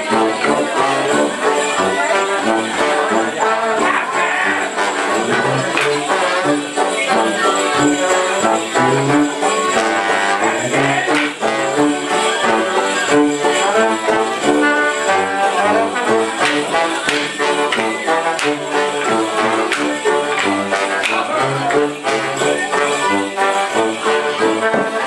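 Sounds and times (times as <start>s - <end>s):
live band playing dance tune: 0.0s - 11.4s, 12.7s - 21.7s.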